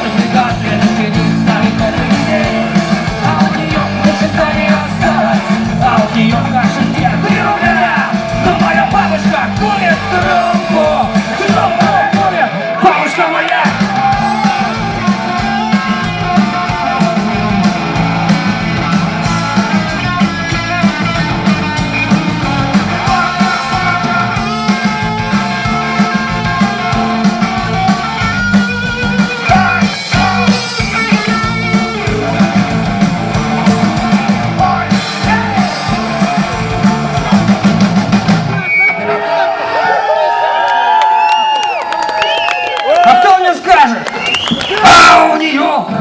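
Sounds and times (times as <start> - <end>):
drum beat: 0.0 - 38.6
electric guitar: 0.0 - 43.1
bass guitar: 0.0 - 46.0.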